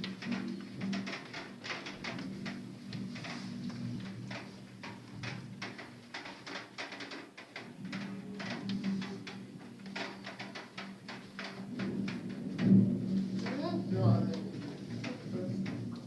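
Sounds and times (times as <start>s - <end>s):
raindrops tapping: 0.0s - 16.0s.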